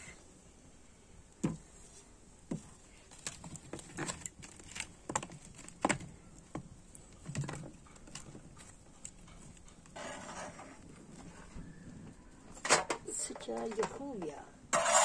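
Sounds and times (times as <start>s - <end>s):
wood fire crackling: 0.0s - 14.7s.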